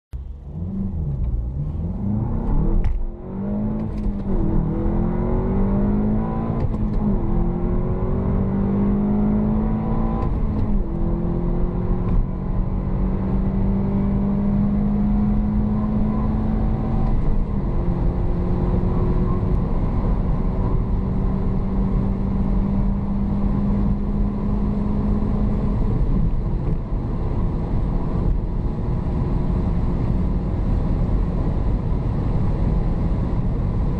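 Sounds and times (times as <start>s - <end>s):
car engine accelerating: 0.2s - 33.9s.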